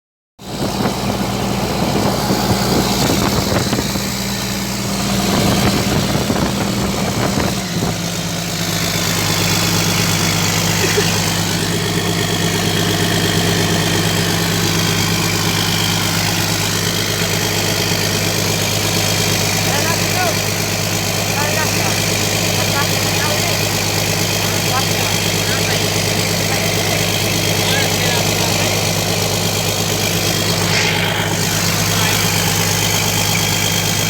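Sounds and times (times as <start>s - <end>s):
excavator diesel engine running: 0.4s - 34.0s.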